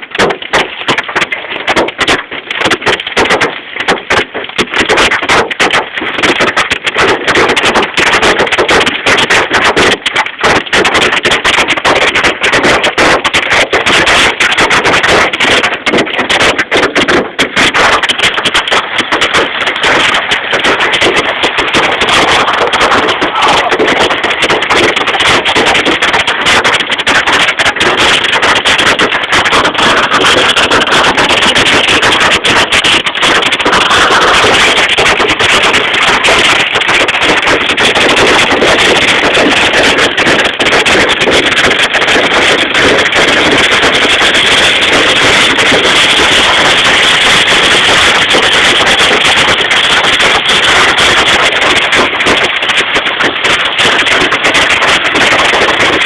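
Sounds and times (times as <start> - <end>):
hail pelting down: 0.0 - 56.0.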